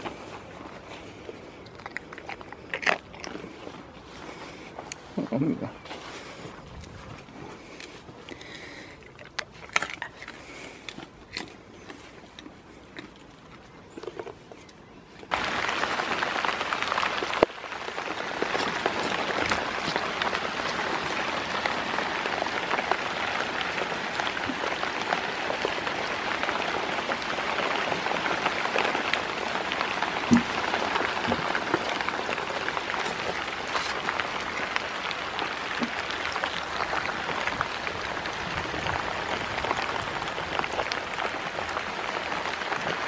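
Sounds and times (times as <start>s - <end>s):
rain on a shelter: 0.0s - 14.0s, 15.2s - 43.0s.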